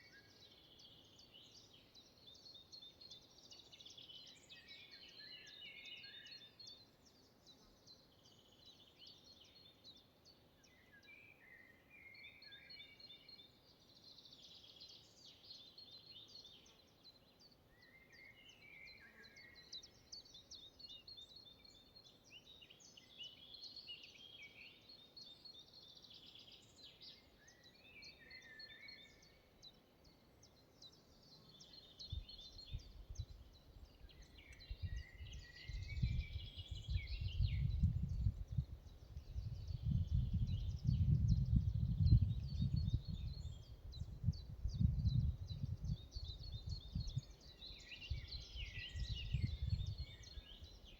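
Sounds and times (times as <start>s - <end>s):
birds singing and chirping: 0.0s - 50.9s.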